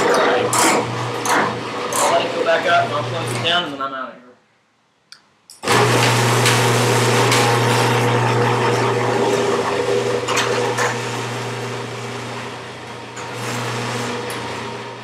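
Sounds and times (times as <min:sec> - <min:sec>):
garage door opener motor humming: 0:00.0 - 0:03.6, 0:05.6 - 0:15.0.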